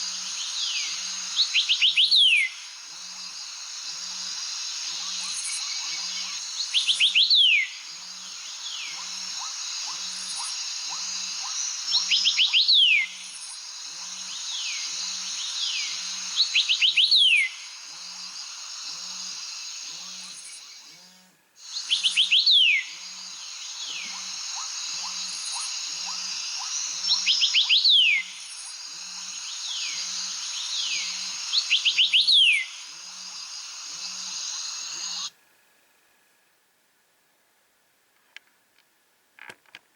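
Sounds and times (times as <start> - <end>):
steady hiss: 0.0 - 39.3.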